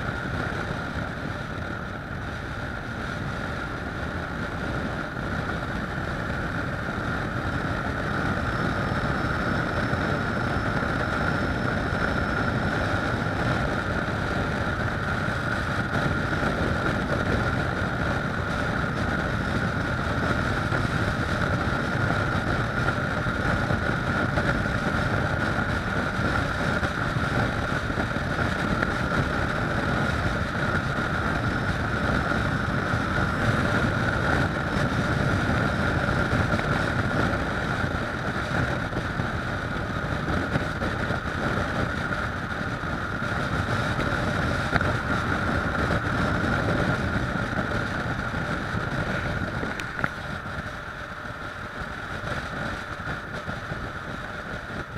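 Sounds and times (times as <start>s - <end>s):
motorcycle engine cruising: 0.0s - 54.9s
wind rushing over microphone: 0.0s - 54.9s.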